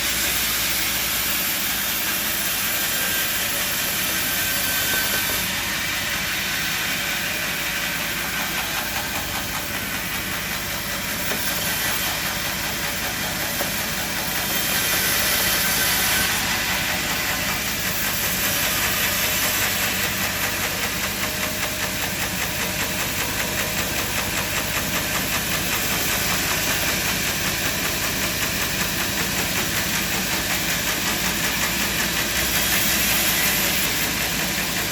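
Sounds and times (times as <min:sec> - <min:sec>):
hissing saw: 0:00.0 - 0:34.9.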